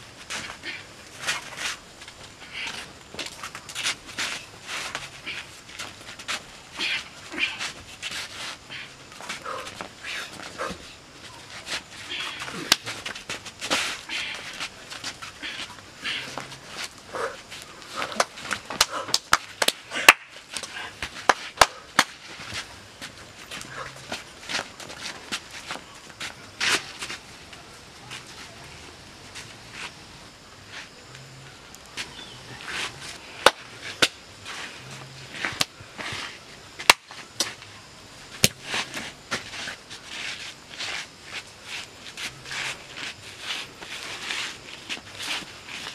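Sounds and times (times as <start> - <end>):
voices: 0.0 - 45.9
shuffling and scuffing: 0.1 - 18.8, 20.4 - 45.9.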